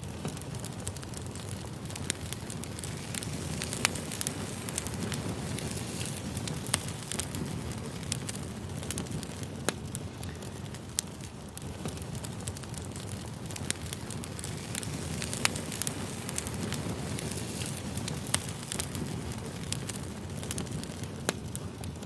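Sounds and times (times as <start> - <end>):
low rush of flame: 0.0 - 22.0
wood fire crackling and popping: 0.0 - 22.0.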